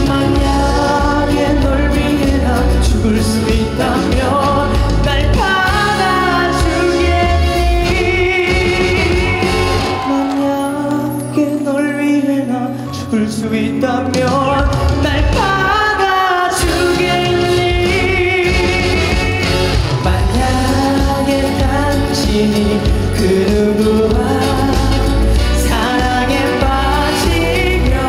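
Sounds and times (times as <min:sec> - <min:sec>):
band playing a ballad: 0:00.0 - 0:28.0.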